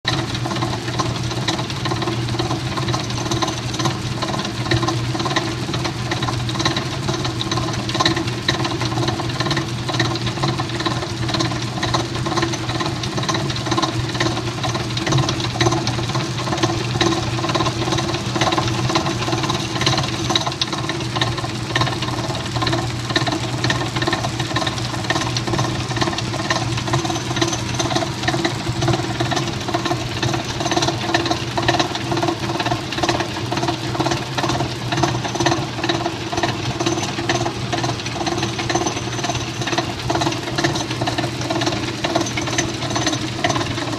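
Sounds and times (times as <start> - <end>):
washing machine motor humming: 0.0 - 43.9.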